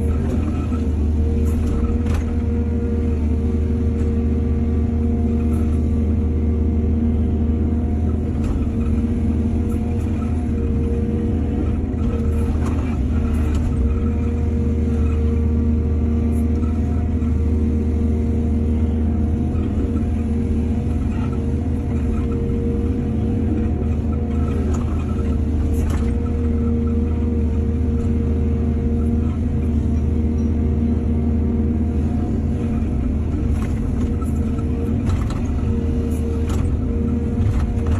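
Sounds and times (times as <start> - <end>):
diesel excavator engine rumbling: 0.0 - 37.9.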